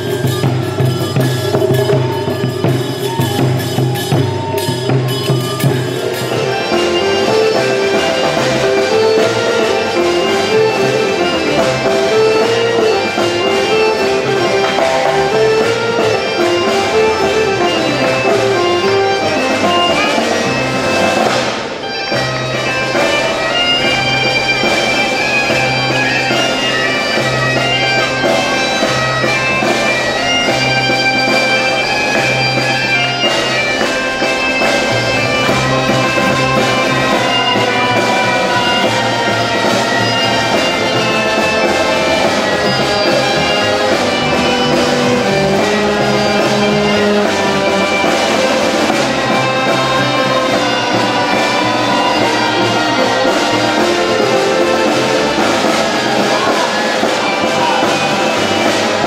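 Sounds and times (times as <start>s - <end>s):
bagpipe: 0.0s - 59.0s
folk band playing dance tune: 0.0s - 59.0s.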